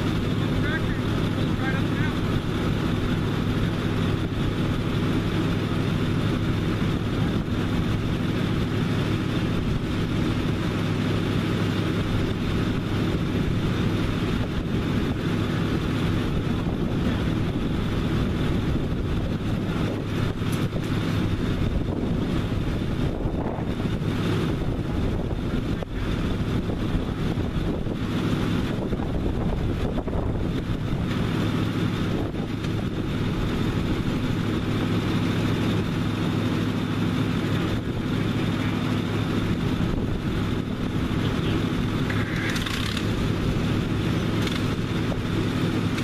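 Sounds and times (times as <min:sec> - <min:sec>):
truck engine idling: 0:00.0 - 0:46.0.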